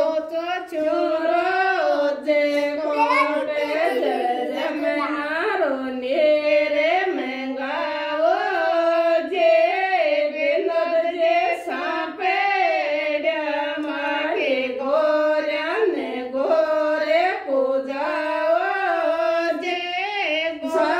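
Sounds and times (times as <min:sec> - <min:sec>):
women singing together: 0:00.0 - 0:20.9.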